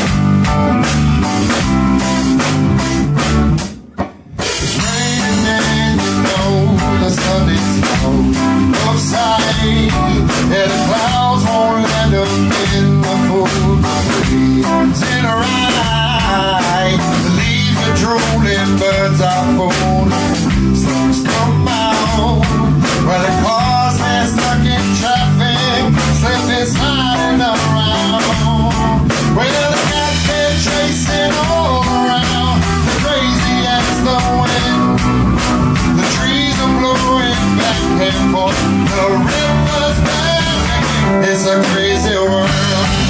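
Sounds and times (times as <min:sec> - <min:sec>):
blues-rock band music: 0:00.0 - 0:43.0.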